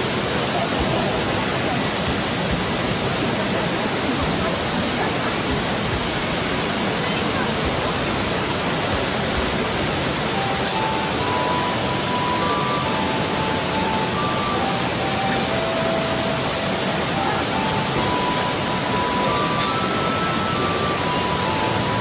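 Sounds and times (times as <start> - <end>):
river rushing over rocks: 0.0 - 22.0
simple melody of held notes: 0.0 - 22.0.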